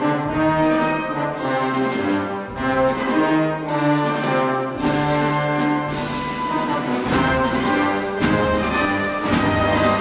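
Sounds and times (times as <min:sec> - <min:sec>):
wind band playing march: 0:00.0 - 0:10.0.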